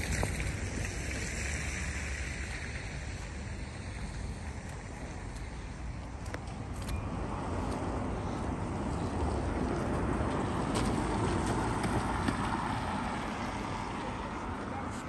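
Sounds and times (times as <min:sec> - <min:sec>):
car traffic on wet street: 0:00.0 - 0:15.0.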